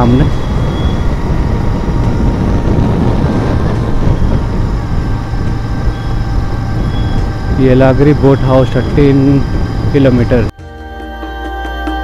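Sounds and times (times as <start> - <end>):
vehicle engine: 0.0 - 10.5
wind noise: 0.0 - 10.5.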